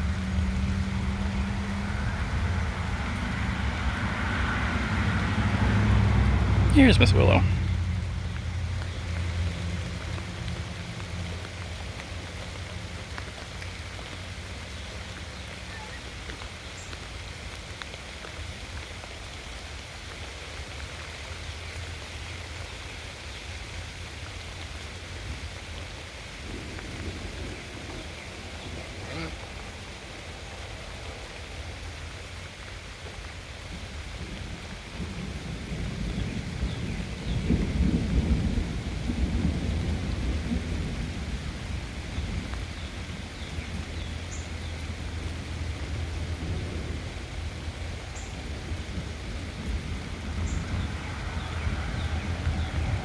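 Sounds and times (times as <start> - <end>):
rain falling steadily: 0.0 - 53.0.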